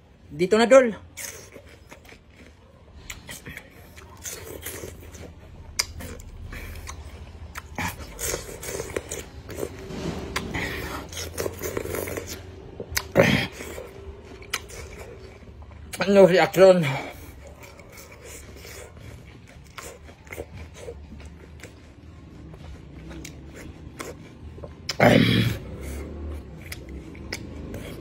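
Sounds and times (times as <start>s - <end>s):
man chewing crunchy fruit: 0.0s - 28.0s.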